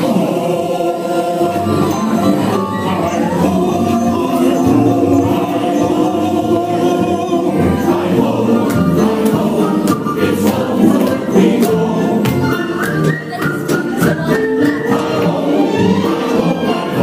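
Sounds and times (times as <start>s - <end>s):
music with group singing: 0.0s - 17.0s.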